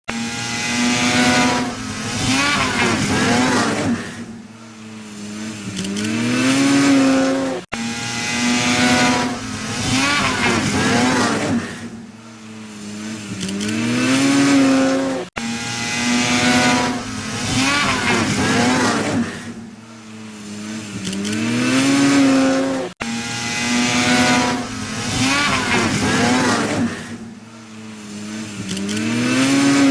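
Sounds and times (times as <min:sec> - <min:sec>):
snowmobile engine revving: 0:00.0 - 0:29.9.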